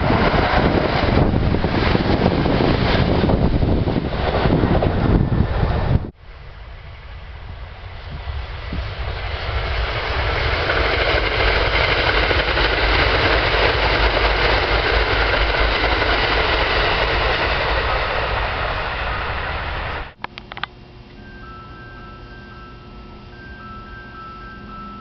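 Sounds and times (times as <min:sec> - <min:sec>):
electric train rushing by: 0:00.0 - 0:20.2, 0:21.2 - 0:25.0.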